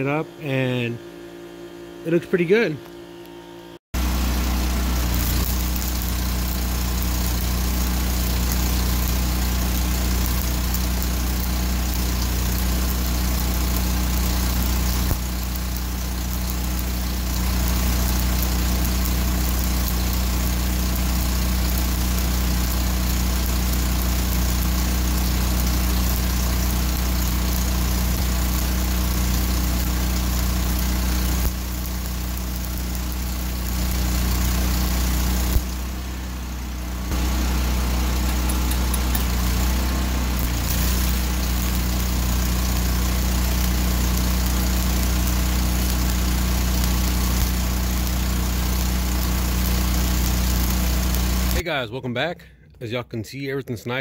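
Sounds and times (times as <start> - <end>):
crackling hiss of welding arc: 4.0 - 51.6
welder engine hum: 4.0 - 51.6.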